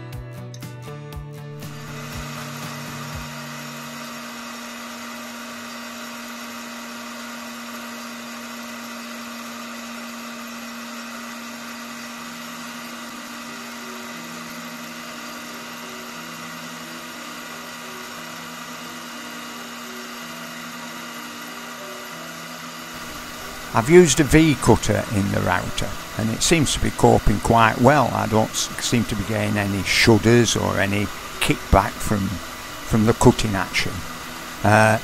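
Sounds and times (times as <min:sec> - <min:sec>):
router whining: 0:01.6 - 0:35.0.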